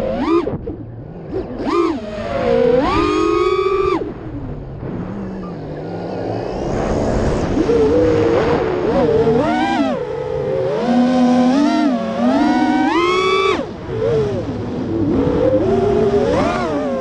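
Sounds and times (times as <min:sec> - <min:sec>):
low steady motor hum: 0:00.0 - 0:17.0
quadcopter propeller whine: 0:00.0 - 0:17.0.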